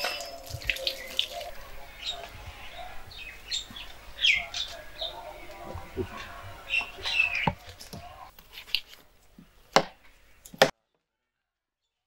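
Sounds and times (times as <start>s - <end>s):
birds chirping and squawking: 0.0s - 10.6s
faint men's voices: 0.0s - 10.7s.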